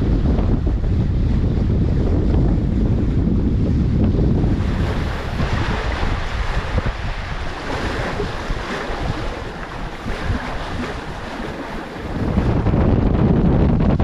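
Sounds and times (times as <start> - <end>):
water splashing along hull: 0.0 - 14.0
wind buffeting microphone: 0.0 - 14.0.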